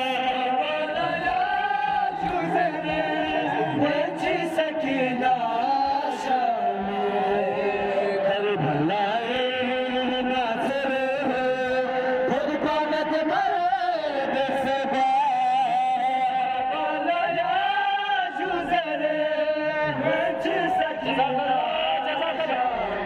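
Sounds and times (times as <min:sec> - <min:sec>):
crowd chanting: 0:00.0 - 0:23.0
man singing a lament into a microphone: 0:00.0 - 0:23.0.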